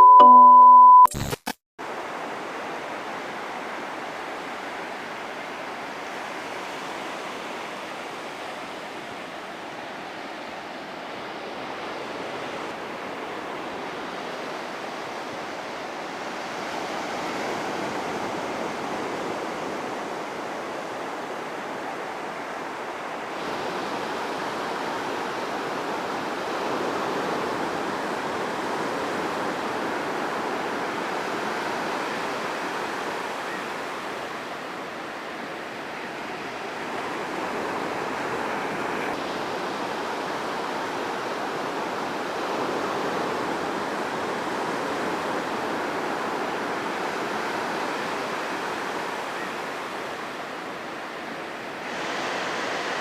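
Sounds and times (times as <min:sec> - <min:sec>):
sea surf washing onto beach: 0:01.9 - 0:53.0.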